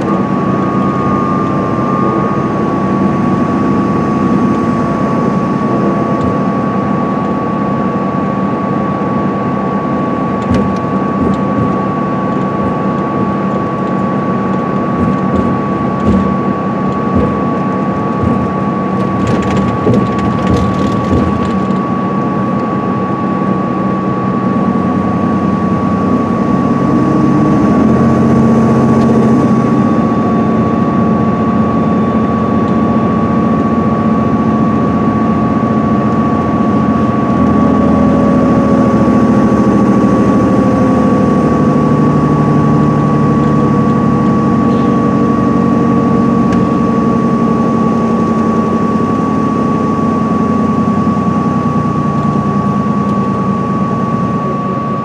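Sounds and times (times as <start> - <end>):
coach engine drone: 0.0 - 55.0
constant high whine: 0.0 - 55.0
road and tyre noise: 0.0 - 55.0.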